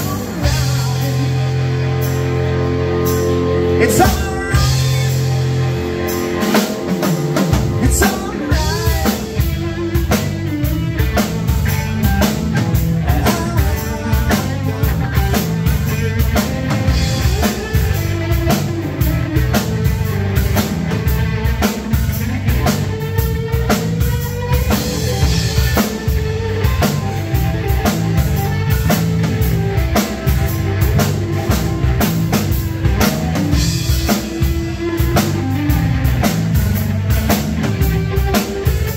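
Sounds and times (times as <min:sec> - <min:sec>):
drum kit beat: 0:00.0 - 0:38.9
electric bass guitar: 0:00.0 - 0:38.9
electric guitar: 0:00.0 - 0:38.9.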